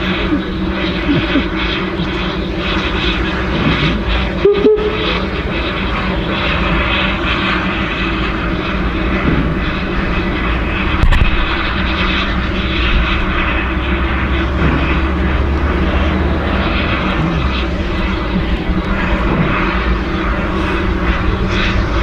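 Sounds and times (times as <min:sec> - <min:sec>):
steam hissing and rumbling: 0:00.0 - 0:22.0.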